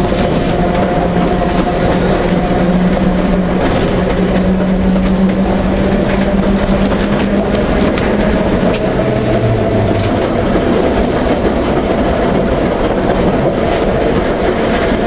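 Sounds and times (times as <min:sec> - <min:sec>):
tram motor drone: 0:00.0 - 0:15.0
wheels rumbling on rail: 0:00.0 - 0:15.0.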